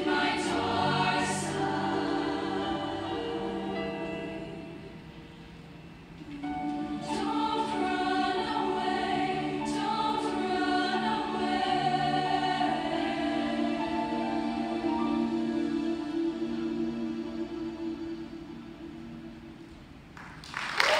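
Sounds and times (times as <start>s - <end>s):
choir singing a slow ballad: 0.0s - 20.0s.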